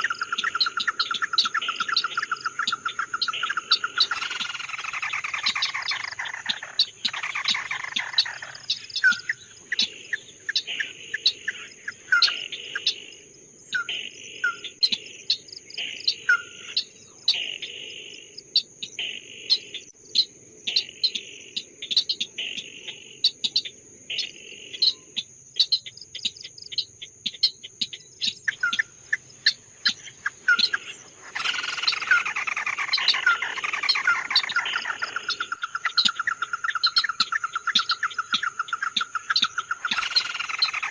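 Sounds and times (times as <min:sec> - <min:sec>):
songbird chirping and rasping: 0:00.0 - 0:40.9.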